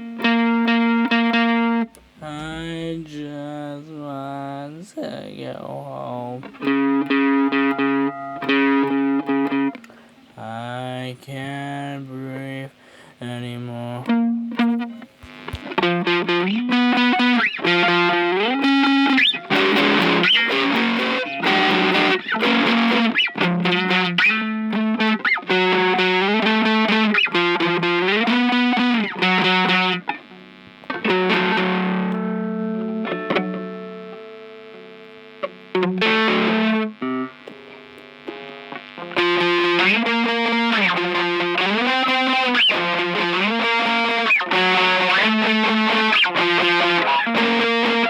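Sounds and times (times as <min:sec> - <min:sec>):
distorted electric guitar: 0:00.0 - 0:48.0.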